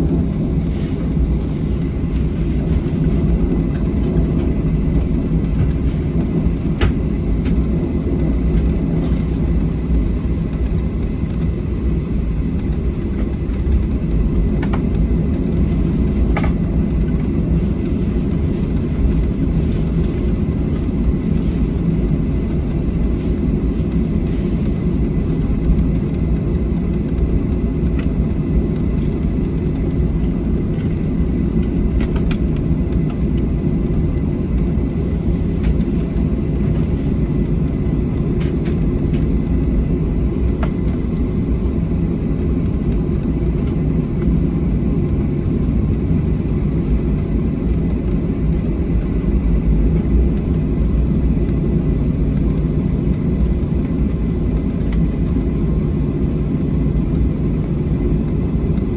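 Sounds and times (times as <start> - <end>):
jet engine cabin rumble: 0.0 - 58.9.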